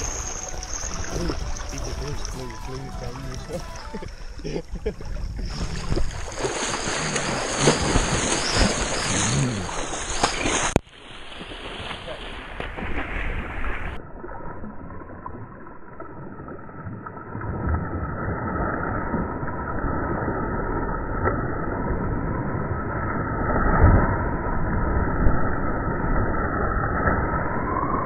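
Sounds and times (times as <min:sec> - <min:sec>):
muffled water splashing: 0:00.0 - 0:28.0.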